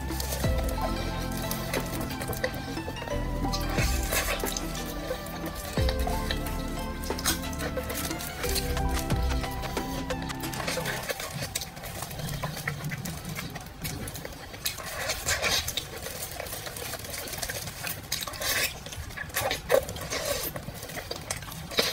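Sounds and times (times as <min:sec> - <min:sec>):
wet chewing and smacking: 0:00.0 - 0:21.9.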